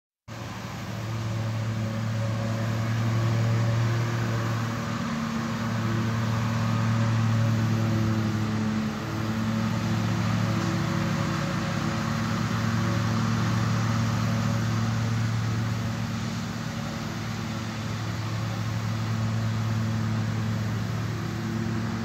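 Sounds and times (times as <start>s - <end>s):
machine humming: 0.3s - 22.0s.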